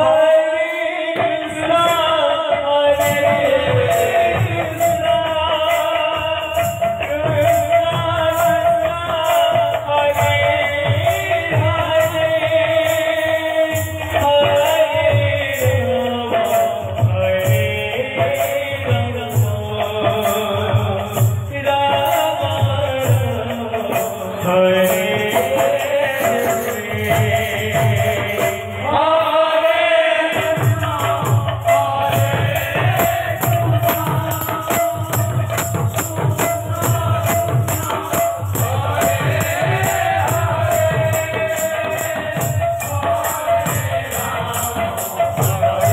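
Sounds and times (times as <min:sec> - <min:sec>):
man singing into microphone: 0:00.0 - 0:45.9
barrel drum beat: 0:03.0 - 0:28.6, 0:30.3 - 0:45.9.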